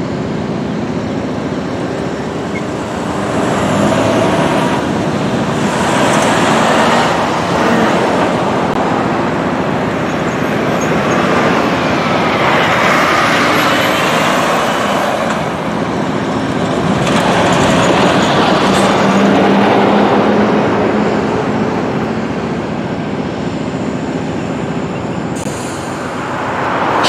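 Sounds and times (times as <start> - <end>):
freight train moving on track: 0.0 - 27.0
trucks driving past: 0.0 - 27.0.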